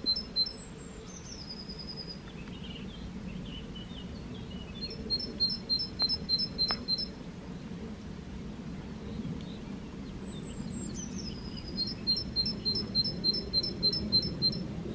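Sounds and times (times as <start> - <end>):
low wind rush: 0.0 - 14.9
songbirds singing: 0.0 - 14.9.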